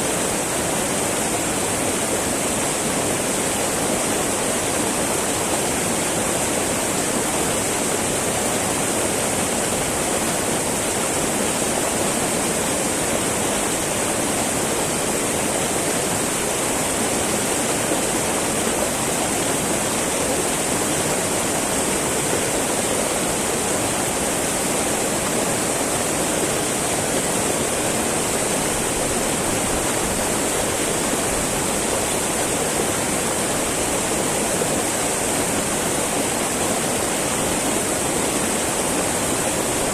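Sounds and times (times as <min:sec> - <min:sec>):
river babbling over rocks: 0:00.0 - 0:39.9.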